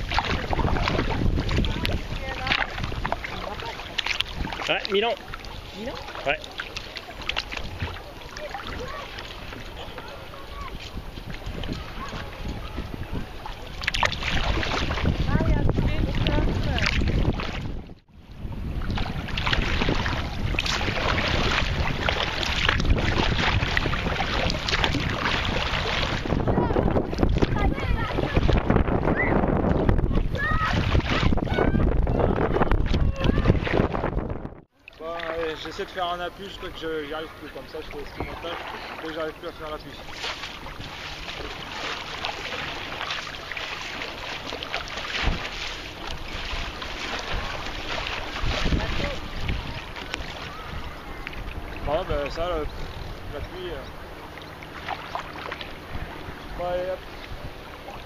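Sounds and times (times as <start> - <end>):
wind noise on microphone: 0.0 - 5.9, 7.3 - 34.7, 39.5 - 58.0
paddle splashing water: 0.0 - 58.0.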